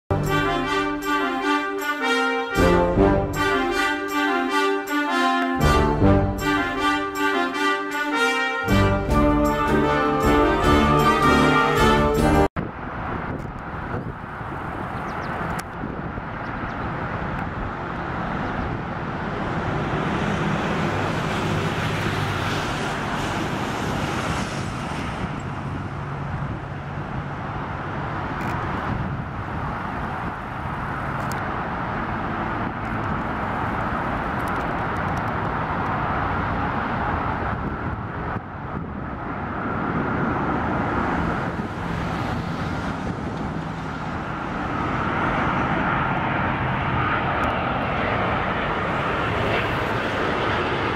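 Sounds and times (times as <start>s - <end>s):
jet engines whining: 0.1s - 28.4s, 36.2s - 50.9s
road traffic noise: 0.1s - 50.9s.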